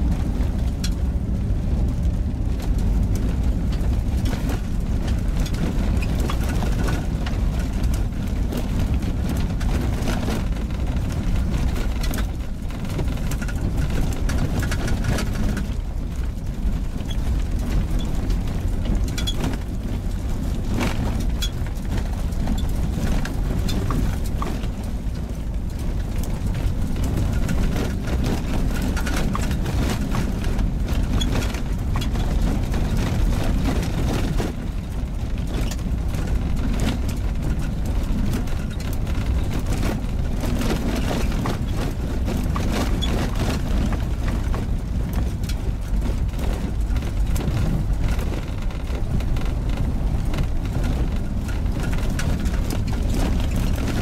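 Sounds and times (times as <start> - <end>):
car engine and tyres rumbling: 0.0 - 54.0
gravel ticks and knocks: 0.0 - 54.0.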